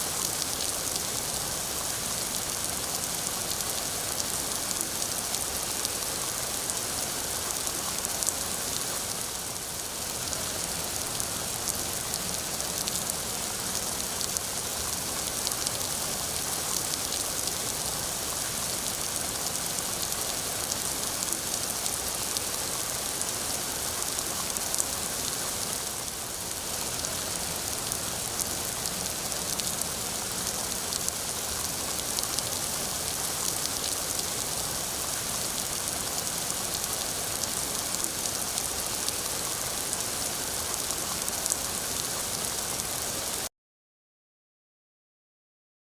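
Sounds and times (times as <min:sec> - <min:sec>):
steady rain falling: 0:00.0 - 0:43.5.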